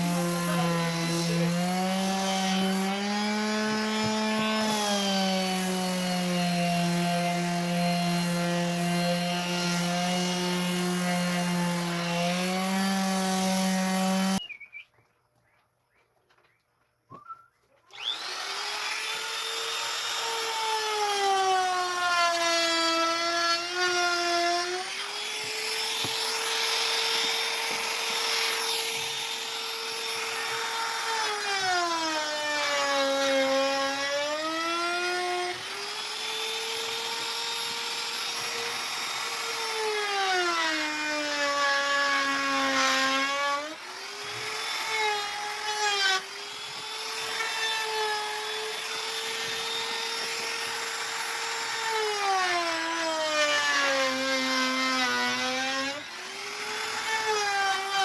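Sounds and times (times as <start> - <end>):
power tool cutting wood: 0.0 - 14.4, 17.9 - 58.0.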